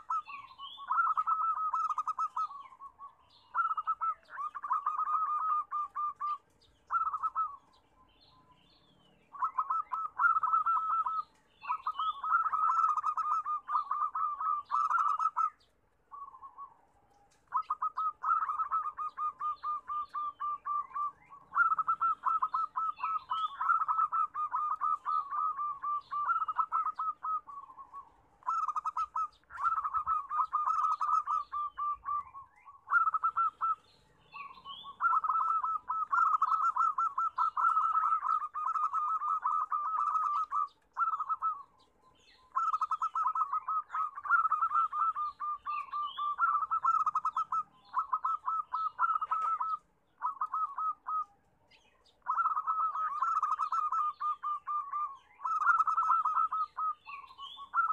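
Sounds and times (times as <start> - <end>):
dove cooing: 0.0 - 57.9
faint high bird chirps: 0.0 - 57.9.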